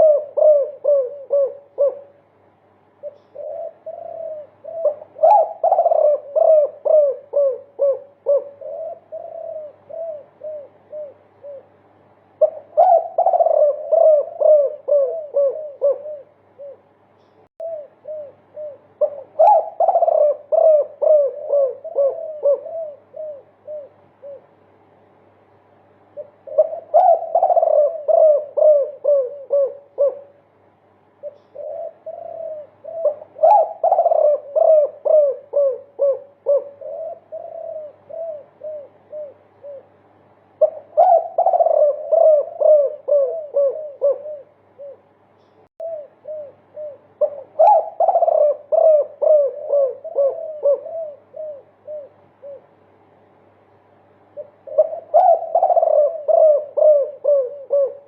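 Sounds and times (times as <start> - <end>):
dove cooing: 0.0 - 24.8, 26.0 - 53.4, 54.1 - 58.0.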